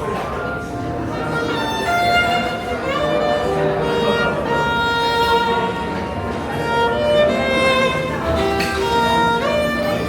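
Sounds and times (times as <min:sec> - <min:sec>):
violin playing slow melody: 0:00.8 - 0:10.0.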